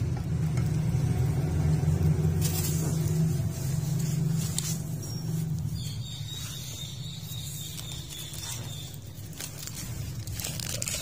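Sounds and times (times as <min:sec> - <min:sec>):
aluminium foil crinkling: 0:02.0 - 0:11.0.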